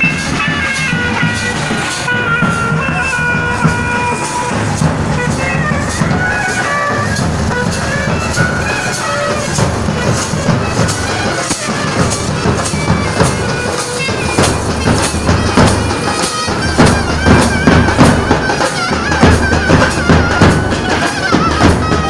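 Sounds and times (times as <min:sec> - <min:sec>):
bass and snare drums beating: 0:00.0 - 0:22.0
reedy wind instrument melody: 0:00.0 - 0:22.0.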